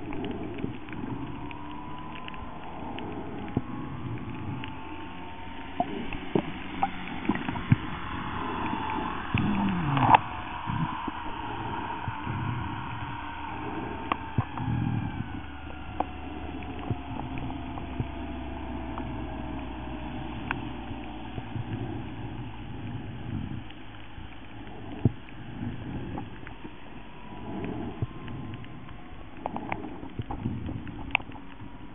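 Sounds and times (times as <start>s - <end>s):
faint whine sliding down in pitch: 0.0s - 31.9s
muffled underwater water movement: 0.0s - 31.9s.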